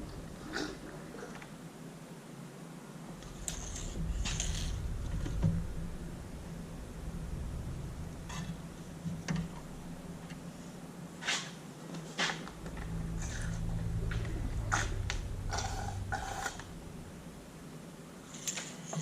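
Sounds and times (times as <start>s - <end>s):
low steady hum: 0.0s - 2.1s, 2.8s - 19.0s.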